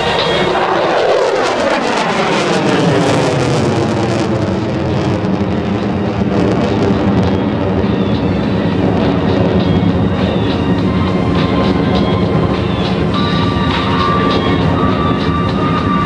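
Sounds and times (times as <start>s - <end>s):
fighter jet engine roar: 0.0s - 16.0s.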